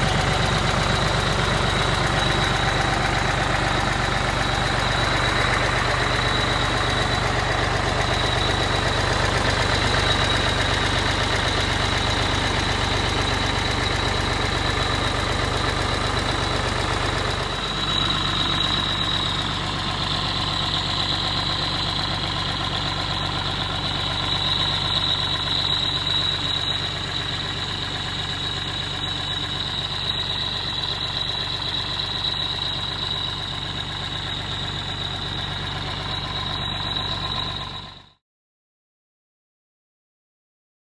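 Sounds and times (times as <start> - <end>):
diesel engine idling: 0.0 - 38.2
high-pitched whine: 0.0 - 38.2.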